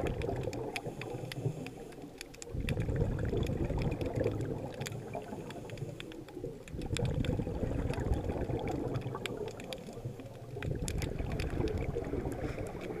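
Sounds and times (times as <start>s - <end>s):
sharp clicks and crackles: 0.0s - 13.0s
underwater rumble of moving water: 0.0s - 13.0s.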